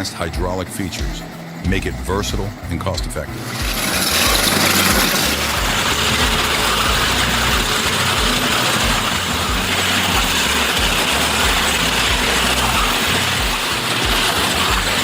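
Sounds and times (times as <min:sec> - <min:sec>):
heavy machine diesel engine din: 0:00.0 - 0:15.0
low throb: 0:00.0 - 0:15.0.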